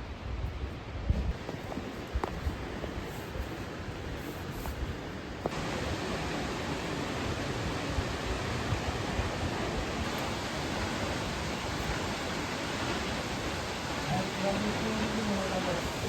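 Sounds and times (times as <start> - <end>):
waterfall roaring: 1.4 - 16.0.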